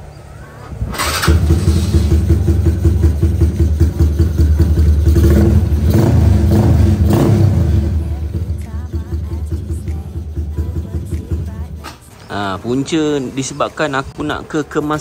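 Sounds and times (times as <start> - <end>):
motorcycle engine revving: 0.7 - 15.0.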